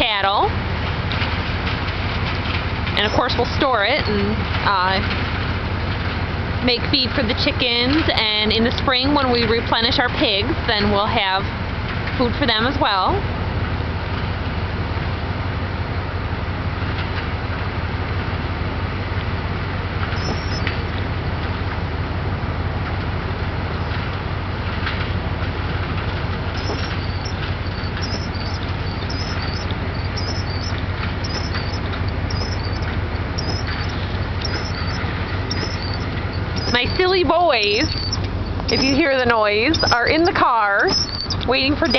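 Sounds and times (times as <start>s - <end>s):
combine harvester engine droning: 0.0s - 41.9s.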